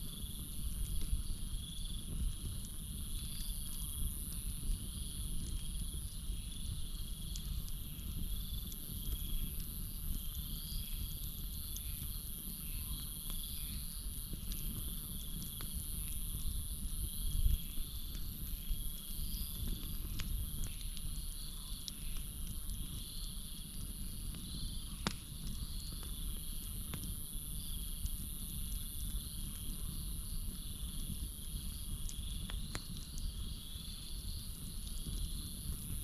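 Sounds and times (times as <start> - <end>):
campfire crackling: 0.0 - 36.0
crickets chorus: 0.0 - 36.0.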